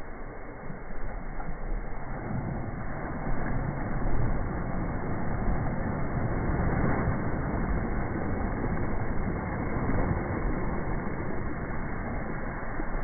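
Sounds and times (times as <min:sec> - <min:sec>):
small waves washing on sandy shore: 0:00.0 - 0:13.0
wind buffeting microphone: 0:00.8 - 0:13.0.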